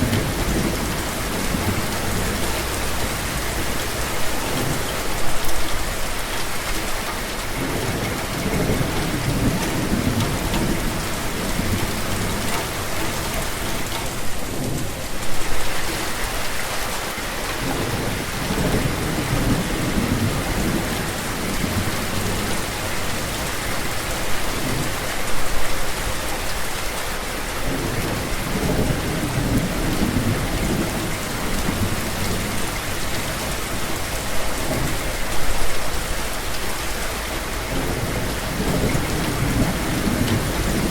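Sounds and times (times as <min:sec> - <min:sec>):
thunder rumbling: 0:00.0 - 0:06.4, 0:07.0 - 0:16.4, 0:17.6 - 0:25.0, 0:27.7 - 0:36.0, 0:37.5 - 0:40.9
rain hissing: 0:00.0 - 0:40.9.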